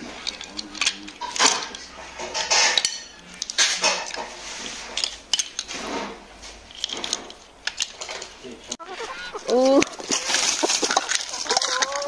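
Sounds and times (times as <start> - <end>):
small hard objects clinking and scraping: 0.0 - 12.0.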